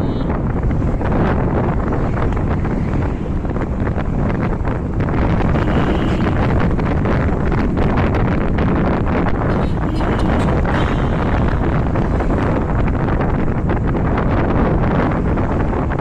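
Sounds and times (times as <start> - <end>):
motorbike road noise: 0.0 - 16.0
wind buffeting microphone: 0.0 - 16.0.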